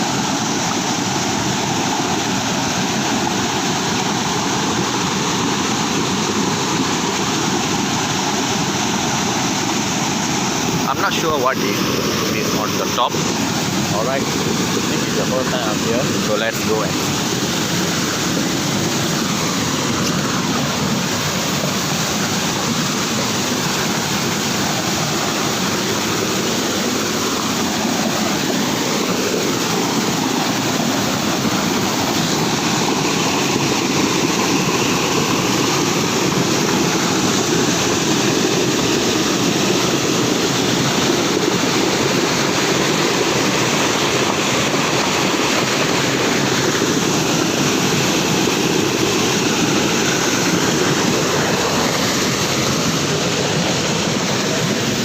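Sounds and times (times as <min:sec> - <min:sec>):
small waterfall rushing: 0:00.0 - 0:55.0.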